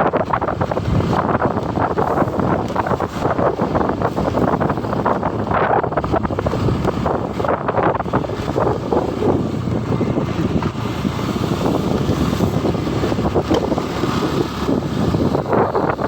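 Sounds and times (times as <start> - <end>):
motorcycle road noise: 0.0 - 16.0
wind rushing on microphone: 0.0 - 16.0.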